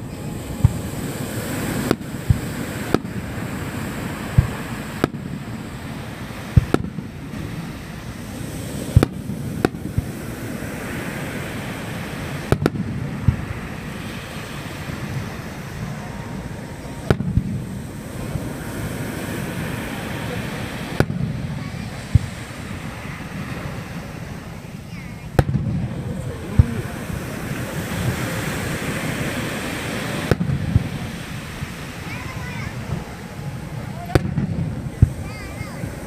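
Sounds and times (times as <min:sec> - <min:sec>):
firework shells booming: 0:00.0 - 0:24.6, 0:25.2 - 0:36.0
waves on the shore: 0:00.0 - 0:36.0.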